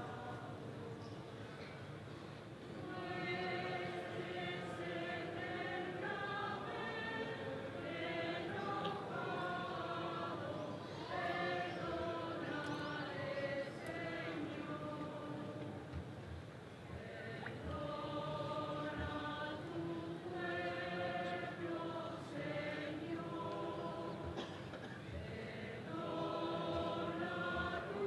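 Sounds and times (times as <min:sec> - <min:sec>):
choir singing slow held notes: 0:00.0 - 0:02.0, 0:02.6 - 0:28.0.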